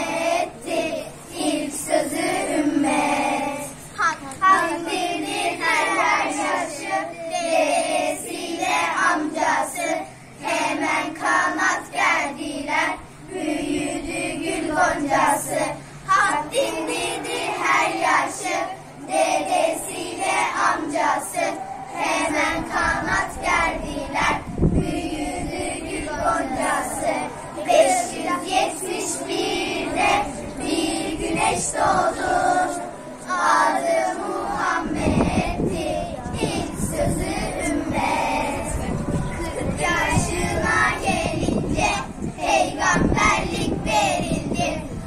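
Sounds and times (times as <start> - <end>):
children singing a hymn: 0.0 - 45.0.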